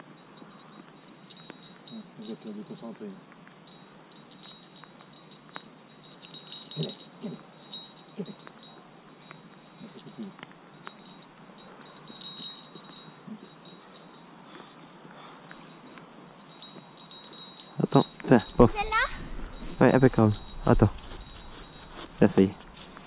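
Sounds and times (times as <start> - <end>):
small metal bell jingling: 0.0 - 23.0
thin high ringing: 0.0 - 23.0.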